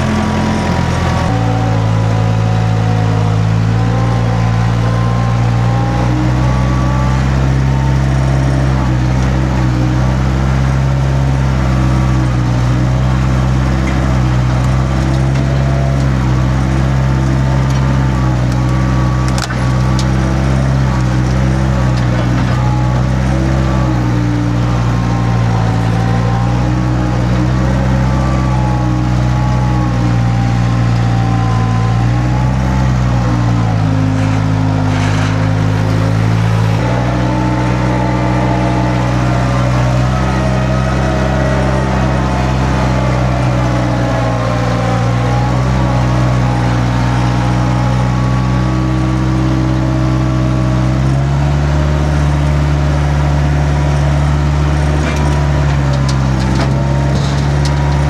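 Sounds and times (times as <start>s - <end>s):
engine running hard: 0.0s - 58.0s
hydraulic whine: 0.0s - 58.0s.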